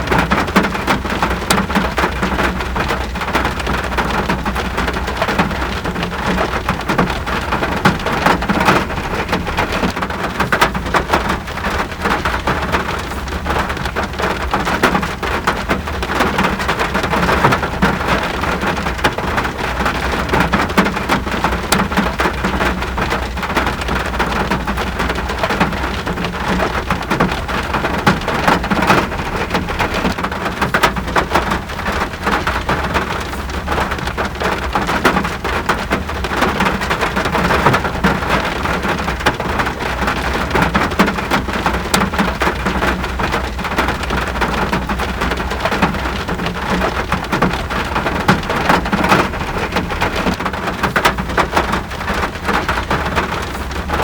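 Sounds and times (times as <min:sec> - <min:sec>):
rain drops striking a surface: 0:00.0 - 0:54.0.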